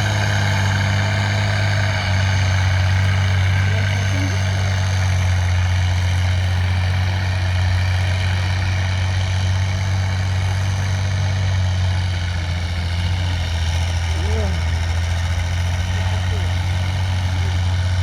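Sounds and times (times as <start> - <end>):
truck engine running steadily: 0.0 - 18.0.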